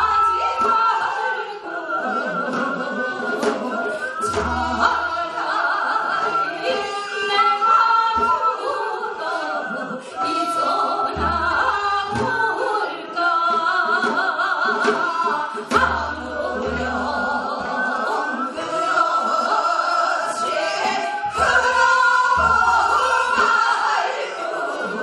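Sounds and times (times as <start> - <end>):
women singing folk song: 0.0 - 25.0.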